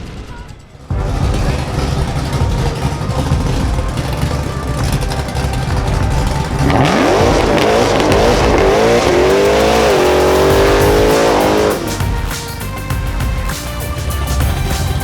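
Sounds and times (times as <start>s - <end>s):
drag car engine at full throttle: 0.9s - 15.0s.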